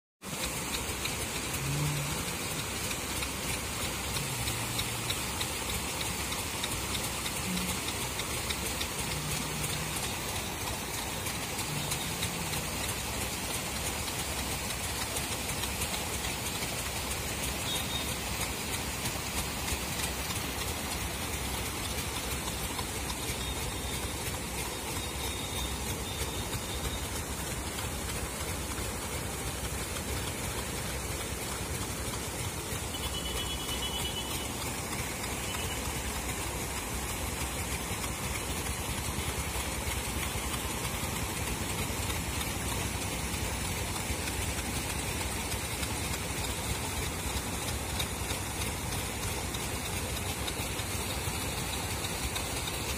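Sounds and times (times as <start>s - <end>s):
paddlewheel aerators churning water: 0.2s - 52.9s.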